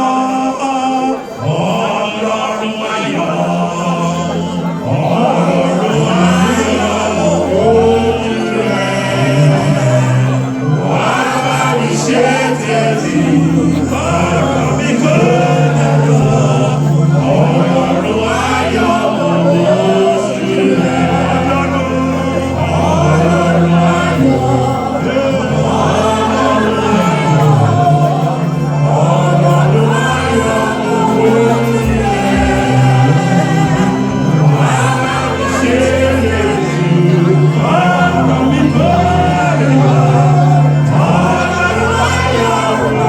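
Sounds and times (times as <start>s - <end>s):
choir singing a hymn: 0.0s - 43.0s
instrumental accompaniment: 0.0s - 43.0s.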